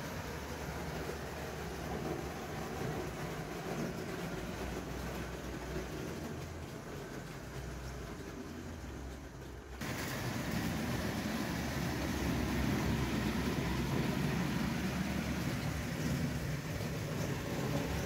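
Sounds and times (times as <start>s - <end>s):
toy steam train rumbling hiss: 0.0s - 18.0s.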